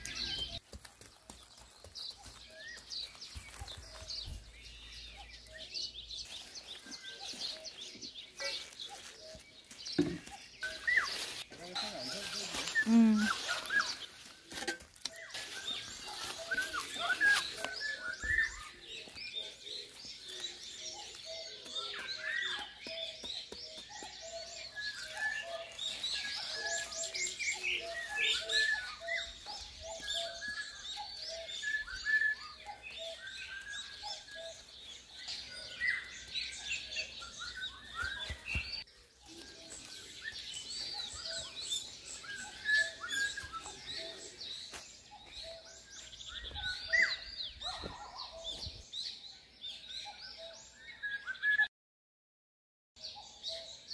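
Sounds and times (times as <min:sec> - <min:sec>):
small birds chirping: 0:00.0 - 0:51.7.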